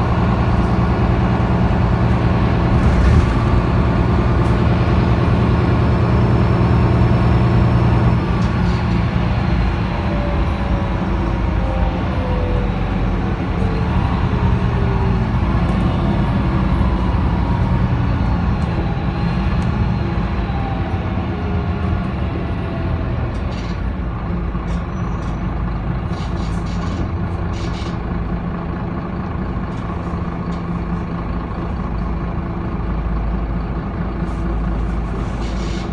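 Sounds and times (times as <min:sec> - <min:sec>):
bus engine idling: 0:00.0 - 0:35.9.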